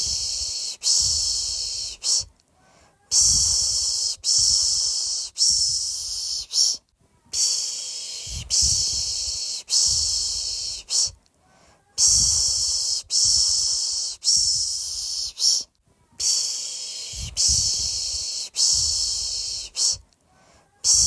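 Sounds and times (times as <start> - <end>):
person shushing a baby: 0.0 - 2.3, 2.9 - 11.2, 11.8 - 20.0, 20.6 - 21.0.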